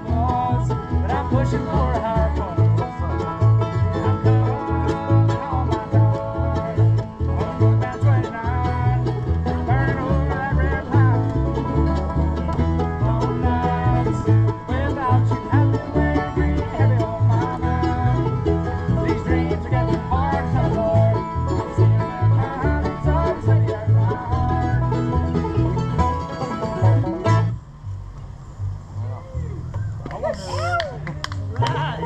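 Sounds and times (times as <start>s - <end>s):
strummed guitar: 0.0s - 27.6s
banjo picking: 0.0s - 27.8s
low bass notes: 0.0s - 32.0s.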